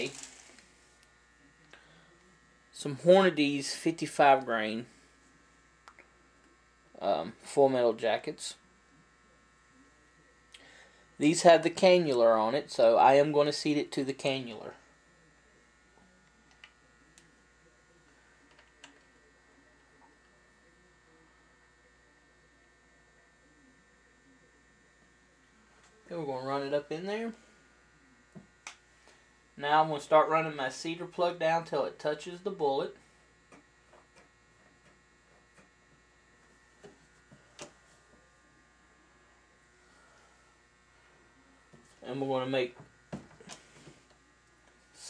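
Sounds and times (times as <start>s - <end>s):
faint electrical hum: 0.0s - 45.0s.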